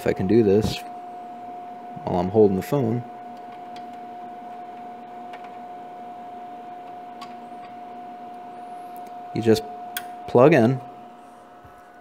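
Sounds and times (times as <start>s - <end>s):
high-pitched electronics whine: 0.0s - 12.0s.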